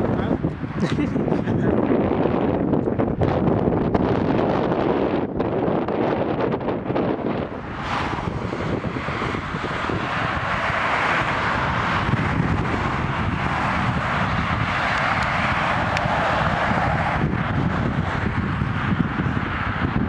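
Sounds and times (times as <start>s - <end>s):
cars passing on road: 0.0s - 20.0s
gusty wind buffeting microphone: 0.0s - 20.0s.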